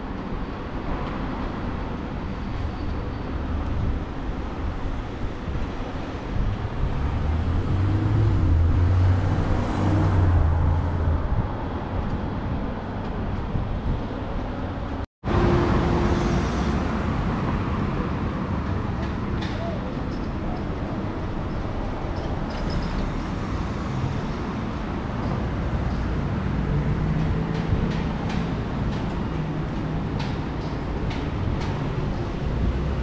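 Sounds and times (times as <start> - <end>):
steady road noise: 0.0 - 33.0.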